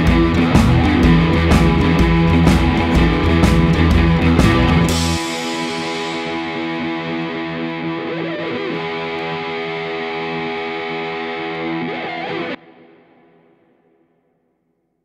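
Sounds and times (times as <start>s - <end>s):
distorted electric guitar chords: 0.0s - 14.0s.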